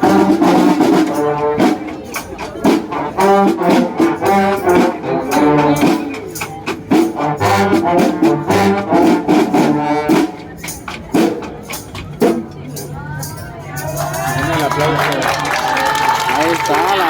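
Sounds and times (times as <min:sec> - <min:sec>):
brass band playing: 0:00.0 - 0:15.2.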